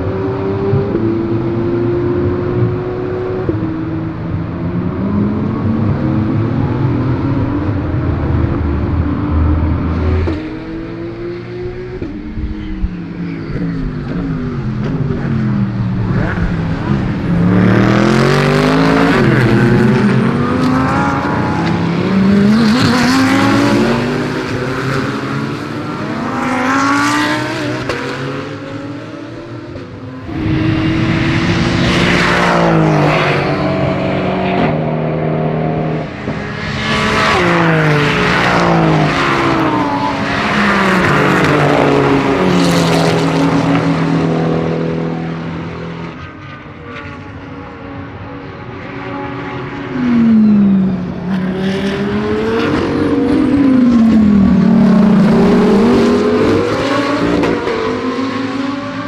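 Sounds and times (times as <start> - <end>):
race cars passing at speed: 0.0 - 59.0.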